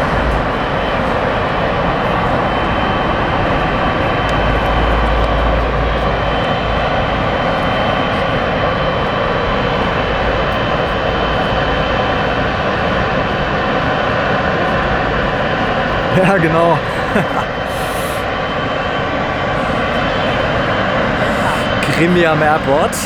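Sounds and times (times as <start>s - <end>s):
high fan whine: 0.0s - 23.0s
jet engines running: 0.0s - 23.0s.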